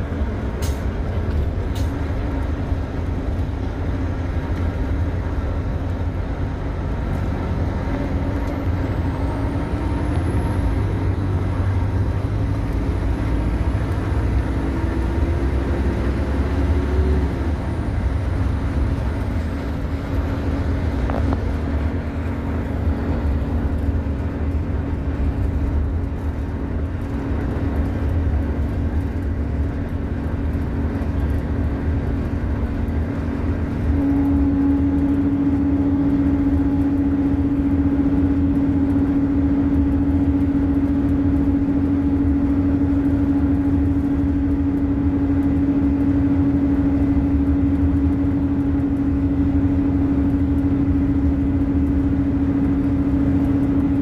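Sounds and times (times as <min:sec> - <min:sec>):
bus engine low drone: 0:00.0 - 0:54.0.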